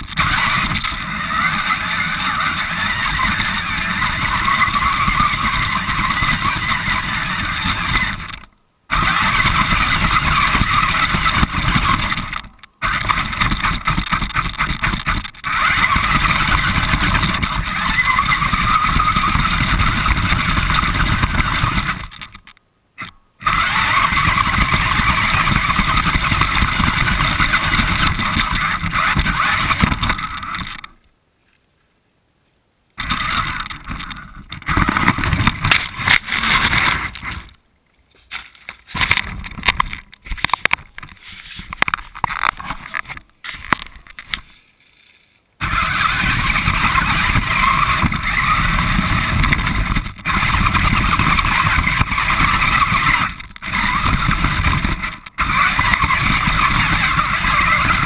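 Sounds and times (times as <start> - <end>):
toy car motor whine: 0.0 - 31.0, 33.0 - 37.6, 39.0 - 58.0
wheels rumbling on ground: 0.0 - 31.0, 33.0 - 58.0.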